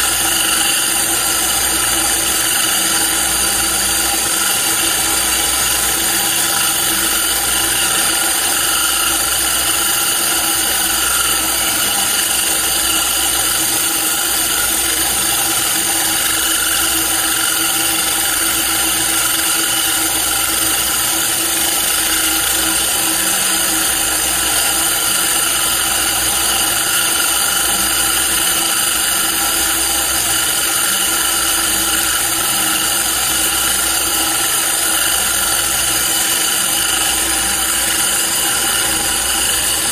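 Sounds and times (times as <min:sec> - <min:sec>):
core drill cutting stone: 0:00.0 - 0:39.9.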